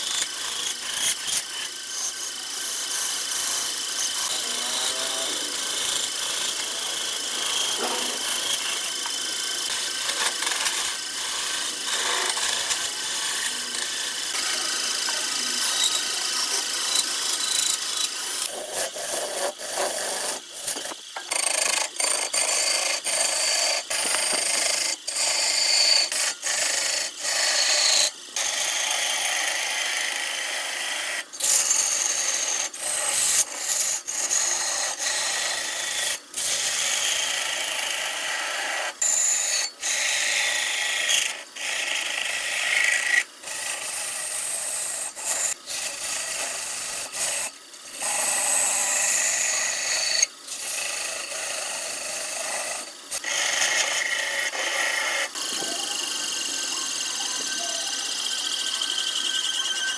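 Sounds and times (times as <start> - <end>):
lathe tool scraping wood: 0.0 - 59.9.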